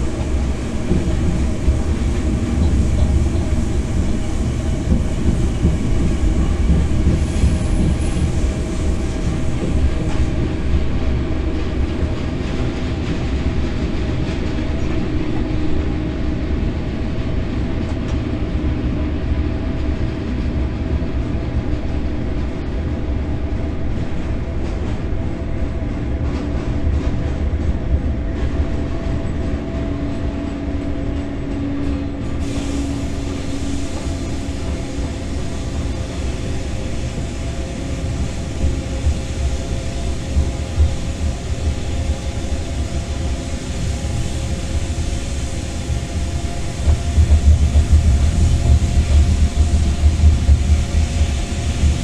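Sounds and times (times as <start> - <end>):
wheels rumbling on rail: 0.0 - 52.0.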